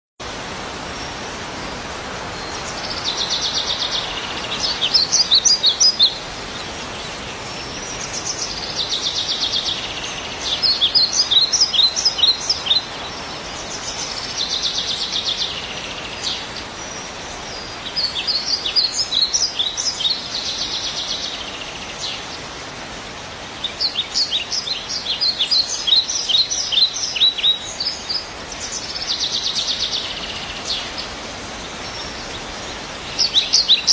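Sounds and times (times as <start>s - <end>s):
songbird singing: 0.2s - 33.9s
steady hiss: 0.2s - 33.9s.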